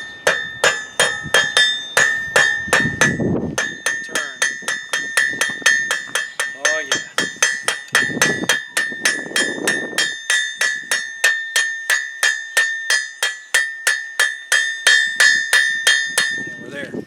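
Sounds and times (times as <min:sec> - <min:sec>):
hammer striking steel on anvil: 0:00.0 - 0:16.6.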